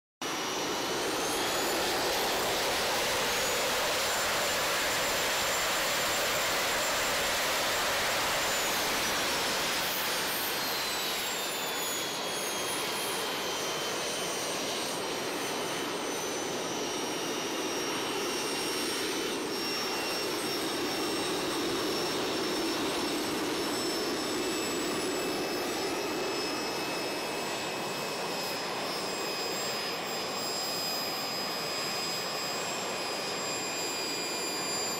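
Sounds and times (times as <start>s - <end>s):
jet turbine roar with whines: 0.2s - 34.9s.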